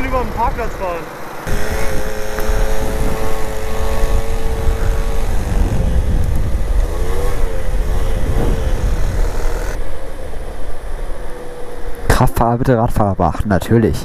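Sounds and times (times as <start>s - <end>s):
motor scooter engine: 0.0s - 12.3s
wind buffeting microphone: 0.0s - 13.2s.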